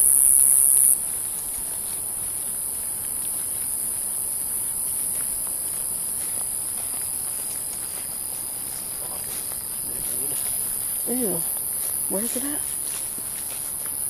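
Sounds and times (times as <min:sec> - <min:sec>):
night insects buzzing: 0:00.0 - 0:14.0
thin steady whine: 0:00.0 - 0:14.0.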